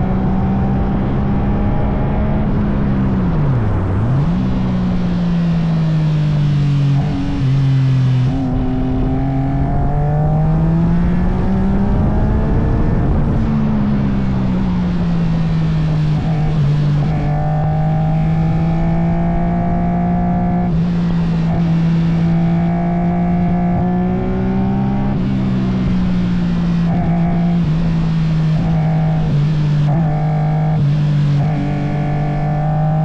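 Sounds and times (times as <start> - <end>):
race car engine running hard: 0.0 - 33.0.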